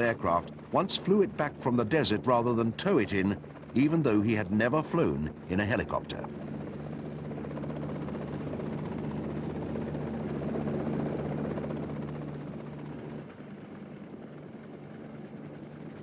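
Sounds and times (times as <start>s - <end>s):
helicopter engine hum: 0.0s - 16.0s.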